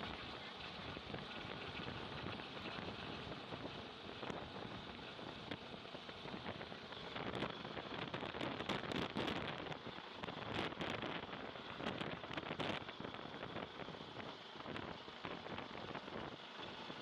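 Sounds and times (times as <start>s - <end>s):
rotor wind buffeting microphone: 0.0s - 17.0s.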